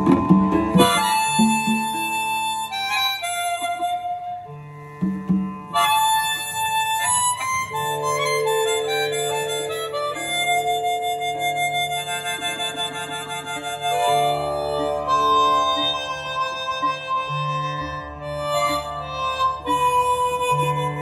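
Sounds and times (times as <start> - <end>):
harmonica melody: 0.0 - 21.0
live band playing: 0.0 - 21.0.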